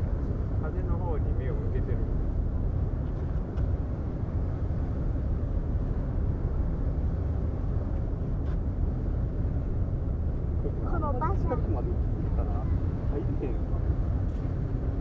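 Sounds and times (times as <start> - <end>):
ship engines and wind rumble: 0.0 - 15.0.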